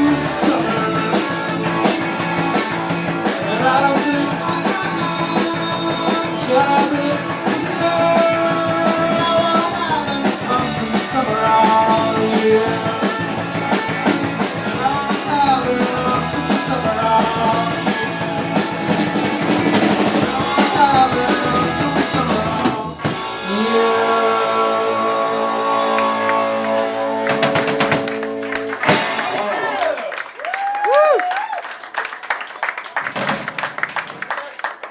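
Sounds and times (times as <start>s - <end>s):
amplified guitar: 0.0s - 29.7s
drum kit: 0.0s - 29.8s.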